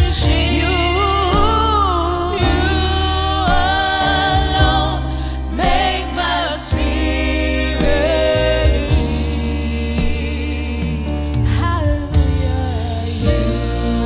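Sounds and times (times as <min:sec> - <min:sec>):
gospel worship song: 0:00.0 - 0:14.0.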